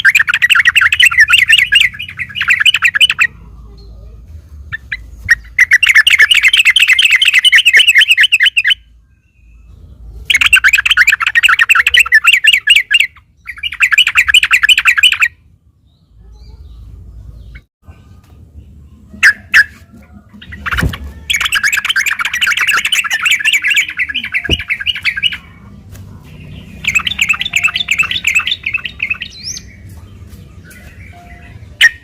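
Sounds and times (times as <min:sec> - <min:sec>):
bird singing chattering song: 0:00.0 - 0:32.0.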